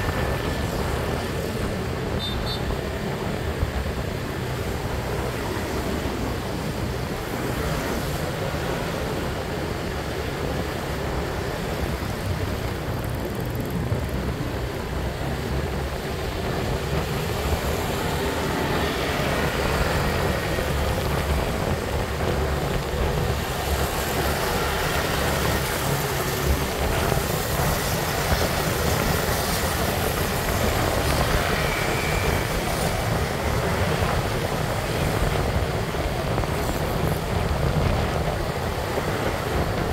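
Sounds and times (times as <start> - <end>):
road noise: 0.0 - 39.9
wind rumble on microphone: 0.0 - 39.9.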